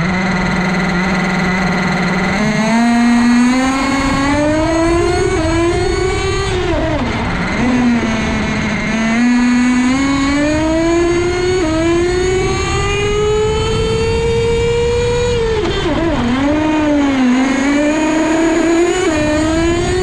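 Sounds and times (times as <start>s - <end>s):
rc car engine revving: 0.0s - 20.0s.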